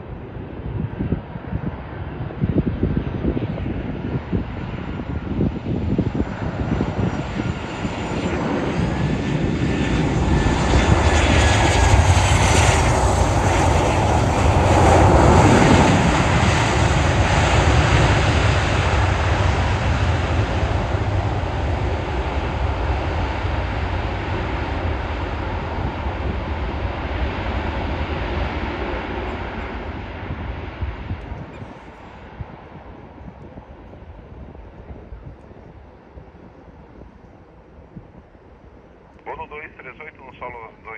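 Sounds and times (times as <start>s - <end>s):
jet engines on landing: 0.0s - 40.9s.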